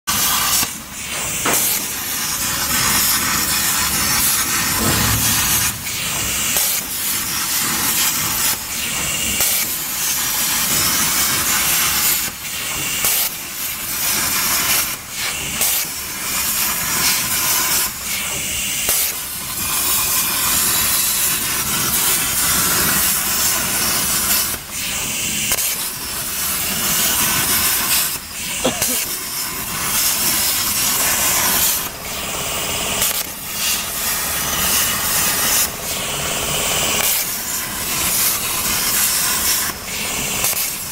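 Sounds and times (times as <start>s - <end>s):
plasma cutter hissing: 0.1s - 40.9s.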